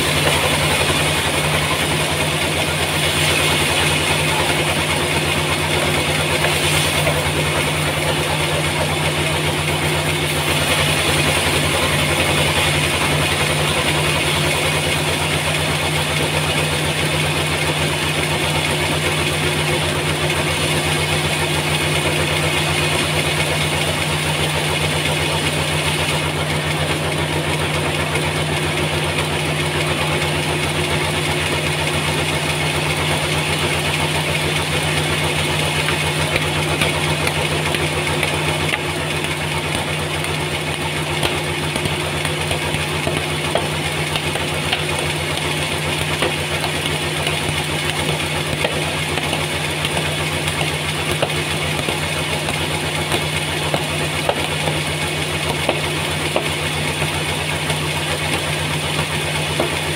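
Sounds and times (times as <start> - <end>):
band sawmill cutting log: 0.0 - 59.9.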